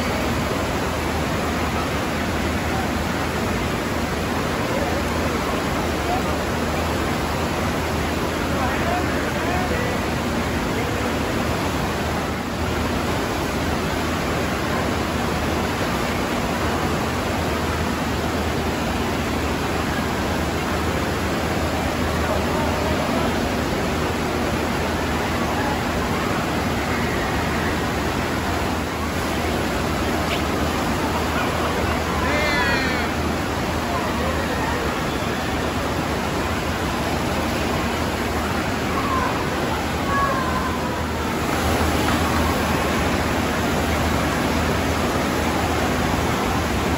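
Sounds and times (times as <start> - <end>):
water rushing: 0.0 - 46.9.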